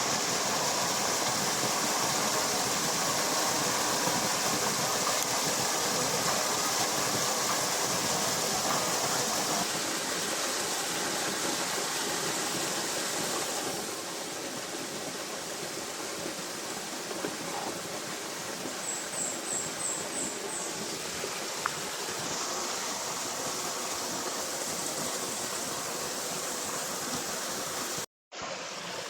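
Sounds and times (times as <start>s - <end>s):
steady rushing hiss: 0.0s - 29.0s.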